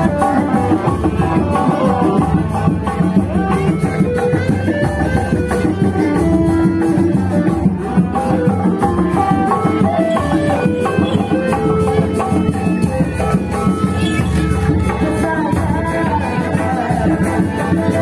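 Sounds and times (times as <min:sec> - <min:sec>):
busy percussion rhythm: 0:00.0 - 0:18.0
stepping melody line: 0:00.0 - 0:18.0.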